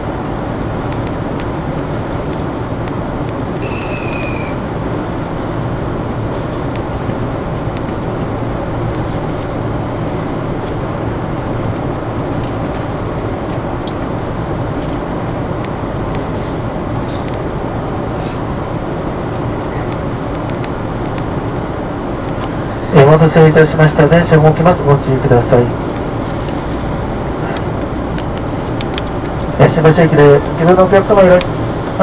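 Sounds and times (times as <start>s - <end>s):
train equipment rumble and hum: 0.0s - 32.0s.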